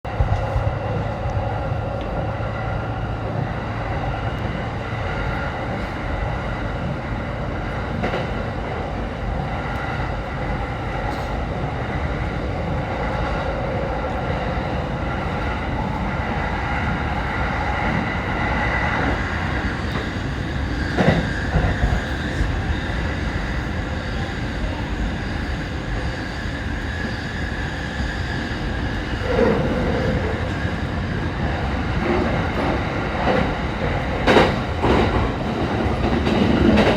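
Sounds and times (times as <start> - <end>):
train wheels on rails: 0.1 - 36.9.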